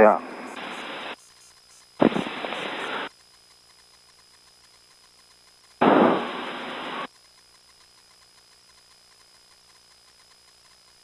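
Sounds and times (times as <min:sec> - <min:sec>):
radio static hiss bursts: 0:00.0 - 0:11.0.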